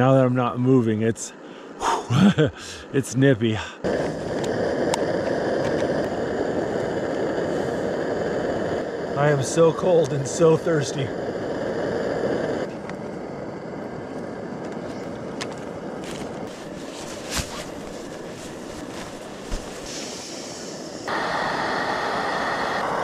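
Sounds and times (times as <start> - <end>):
camp stove burner hissing: 1.4 - 23.0.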